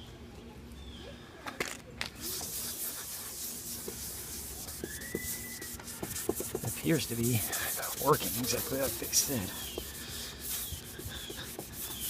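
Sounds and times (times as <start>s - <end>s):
scratchy wiping on plastic lens: 2.2s - 12.0s.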